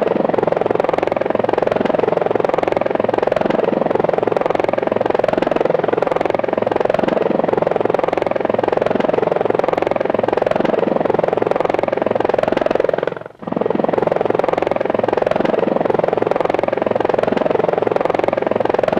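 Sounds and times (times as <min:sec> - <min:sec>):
toy helicopter rotors buzzing: 0:00.0 - 0:18.9.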